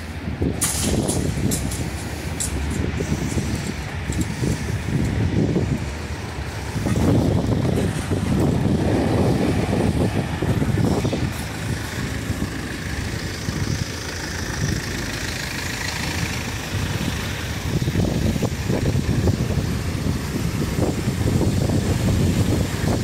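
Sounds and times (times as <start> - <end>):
vehicles idling: 0.0 - 23.0
wind buffeting microphone: 0.0 - 23.0.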